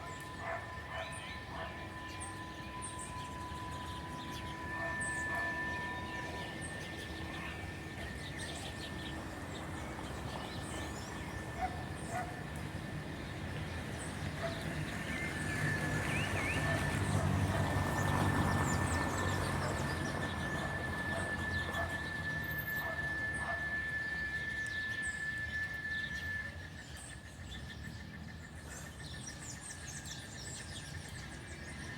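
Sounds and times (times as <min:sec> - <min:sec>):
birds chirping: 0:00.0 - 0:31.9
cicadas singing: 0:00.0 - 0:31.9.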